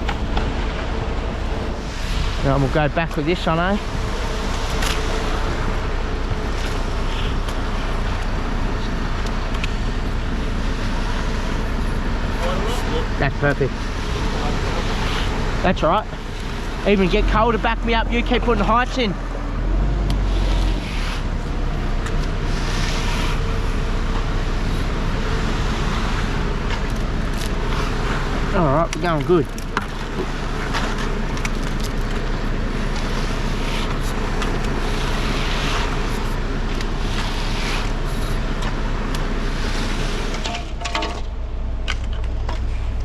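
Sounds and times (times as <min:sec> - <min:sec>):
engine rumbling: 0:00.0 - 0:43.0.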